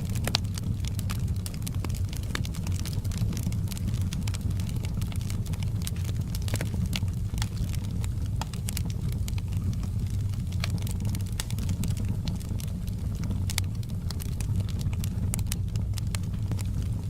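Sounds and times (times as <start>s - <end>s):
fireplace fire crackling: 0.0s - 17.0s
low rumble: 0.0s - 17.0s.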